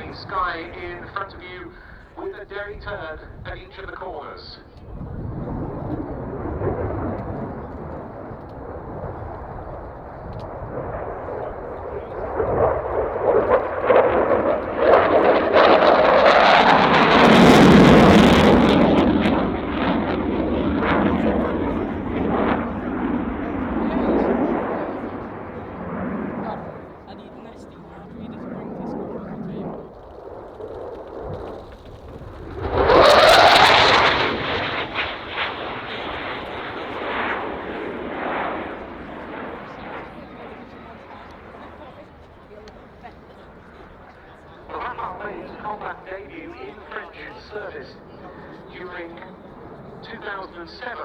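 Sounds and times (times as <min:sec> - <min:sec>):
fighter jet engines roaring: 0:00.0 - 0:51.0.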